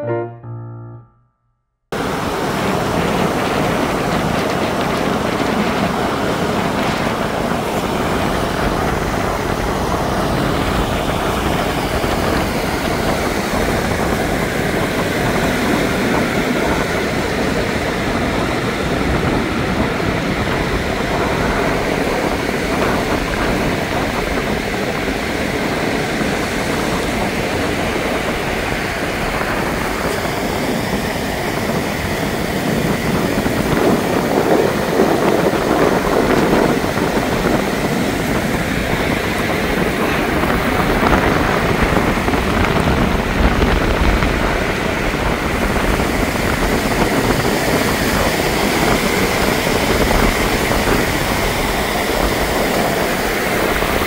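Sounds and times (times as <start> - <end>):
waves washing over sand: 2.0 - 54.0
wind on microphone: 2.0 - 54.0.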